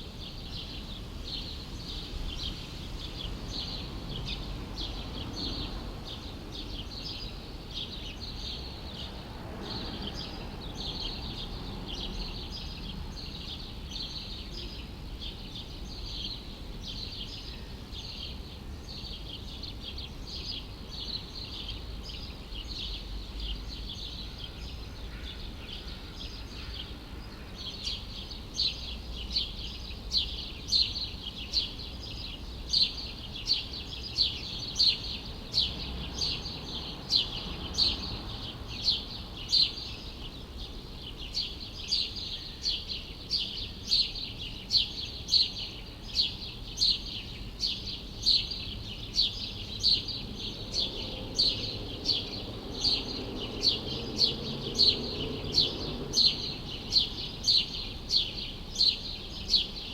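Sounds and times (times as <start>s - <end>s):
city background hum: 0.0s - 59.9s
bird chirping: 0.2s - 59.9s.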